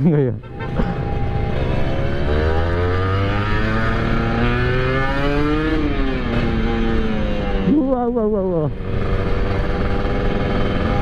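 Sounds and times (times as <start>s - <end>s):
motorcycle engine accelerating: 0.8s - 11.0s.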